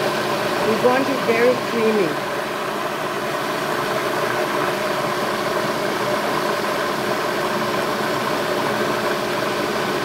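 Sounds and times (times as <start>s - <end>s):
food processor motor running: 0.0s - 10.0s.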